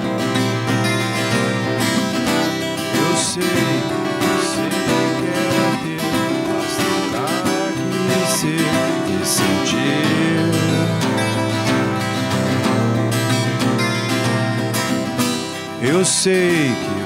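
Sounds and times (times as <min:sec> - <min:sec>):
acoustic guitars playing: 0:00.0 - 0:17.0.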